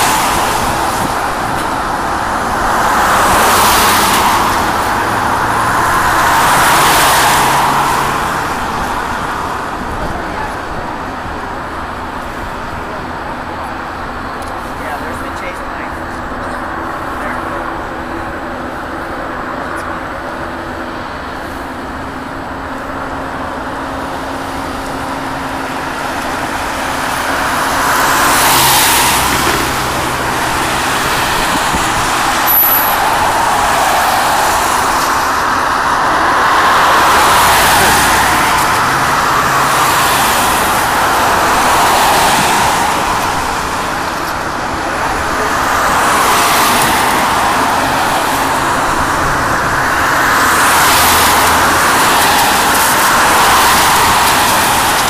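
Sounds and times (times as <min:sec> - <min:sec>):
outdoor engine noise: 0:00.0 - 0:55.0.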